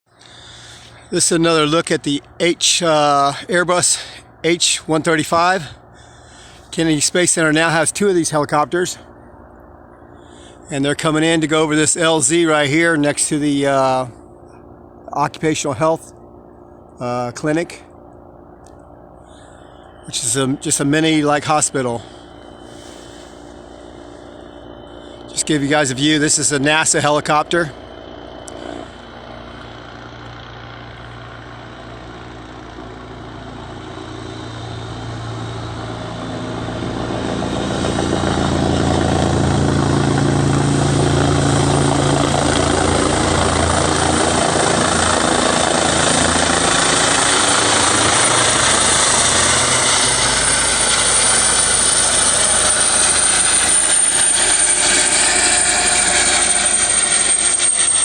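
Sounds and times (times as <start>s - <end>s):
helicopter rotor noise: 0.1s - 58.0s
high turbine whine: 0.1s - 58.0s.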